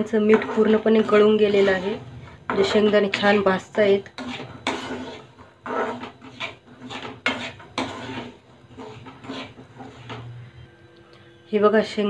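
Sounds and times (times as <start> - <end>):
spoon scraping pan: 0.0 - 10.7.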